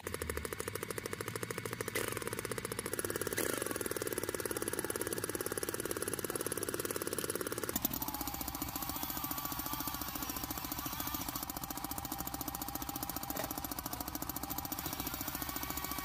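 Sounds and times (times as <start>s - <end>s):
model tractor engine chugging: 0.0s - 16.0s.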